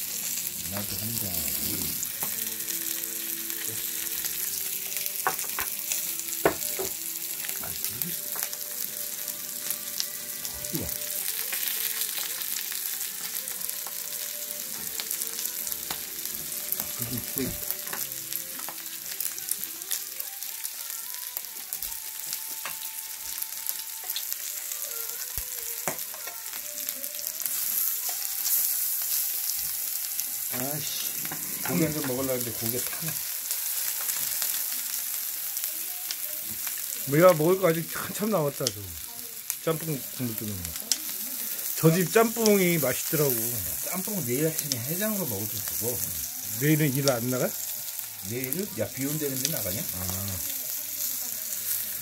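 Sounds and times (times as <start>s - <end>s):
meat sizzling on a grill: 0.0s - 52.0s.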